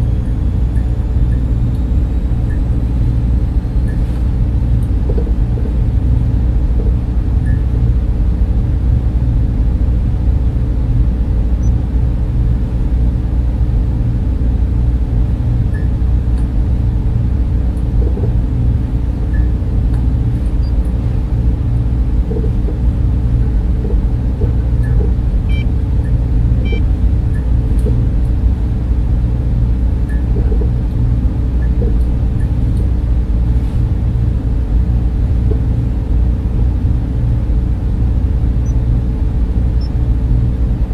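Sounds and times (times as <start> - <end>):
cooling fans humming: 0.0 - 40.9.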